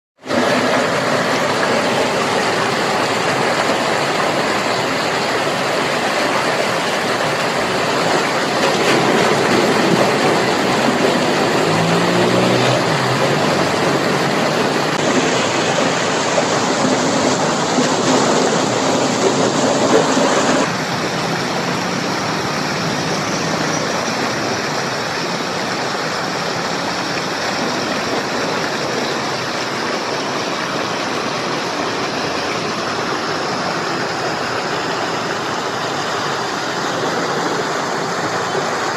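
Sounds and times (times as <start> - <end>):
waterfall rushing: 0.2 - 38.9.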